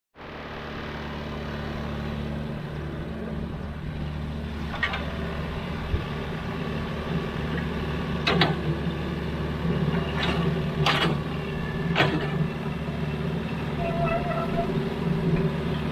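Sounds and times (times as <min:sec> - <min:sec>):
excavator diesel engine running: 0:00.2 - 0:15.9.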